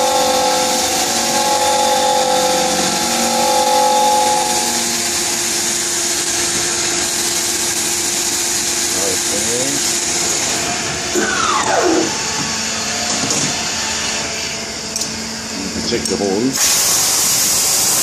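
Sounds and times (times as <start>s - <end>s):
multi-tone hum: 0.0s - 16.1s
machining spindle and cutting noise: 0.0s - 18.0s.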